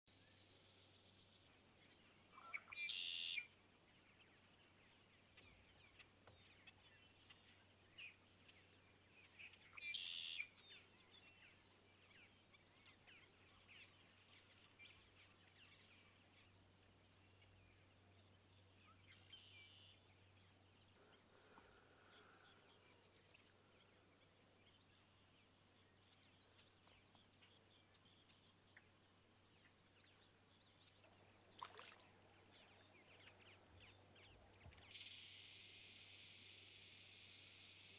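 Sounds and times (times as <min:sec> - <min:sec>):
insect chorus buzzing: 0:00.2 - 0:37.9.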